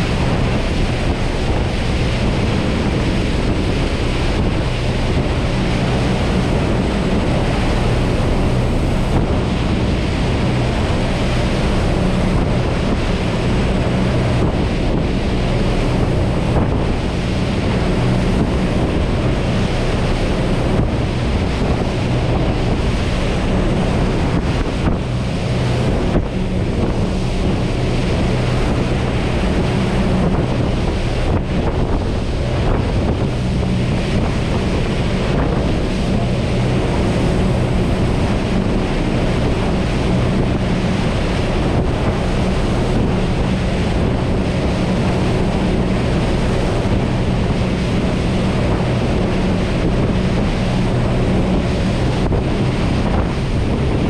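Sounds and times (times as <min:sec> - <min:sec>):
rush of jet wash and wake: 0:00.0 - 0:54.0
wind buffeting microphone: 0:00.0 - 0:54.0.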